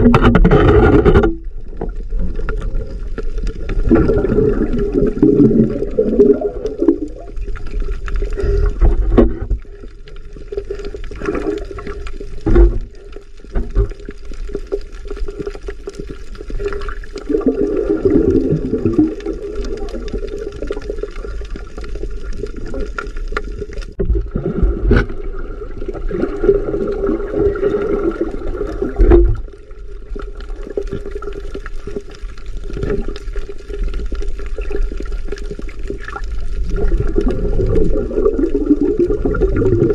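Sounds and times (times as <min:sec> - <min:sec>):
bubbling gurgles: 0:00.0 - 0:39.9.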